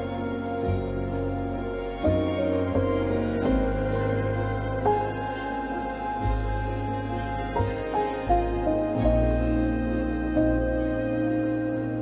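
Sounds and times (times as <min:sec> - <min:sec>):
slow sad string music: 0:00.0 - 0:12.0.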